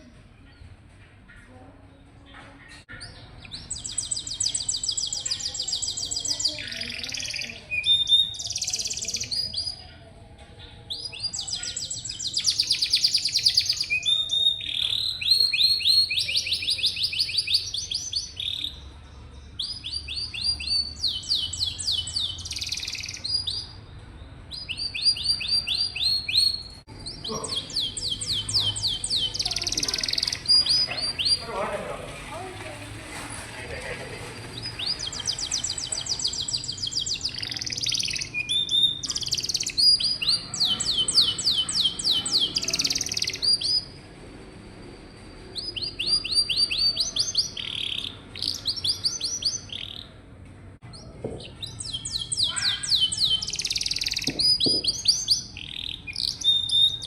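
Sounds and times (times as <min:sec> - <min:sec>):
canary singing trills: 0:00.0 - 0:32.5, 0:34.2 - 0:44.0, 0:44.6 - 0:57.0.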